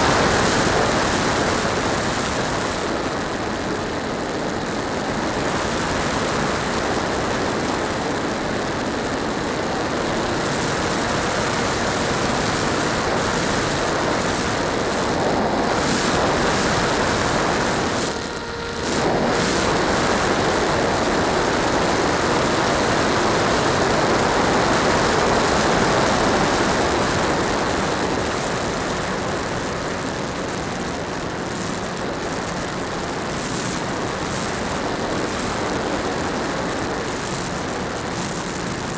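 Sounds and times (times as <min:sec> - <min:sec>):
electric motor and propeller: 0:00.0 - 0:38.9
wind rushing over camera: 0:00.0 - 0:38.9.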